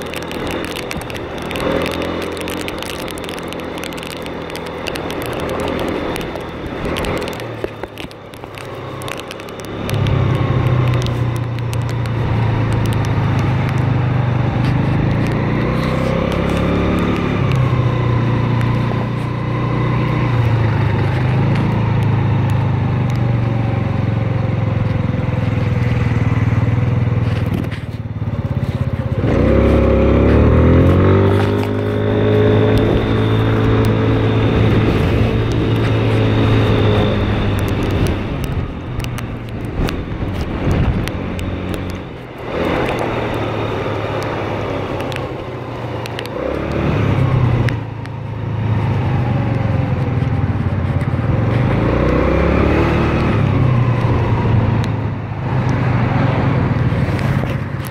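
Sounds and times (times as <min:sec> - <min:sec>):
motor scooter engine: 0:00.0 - 0:57.9.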